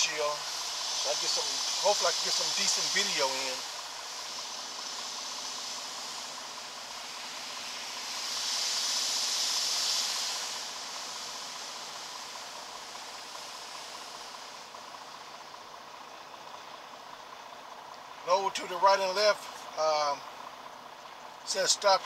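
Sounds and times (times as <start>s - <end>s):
water spray hissing on truck: 0.0s - 22.0s.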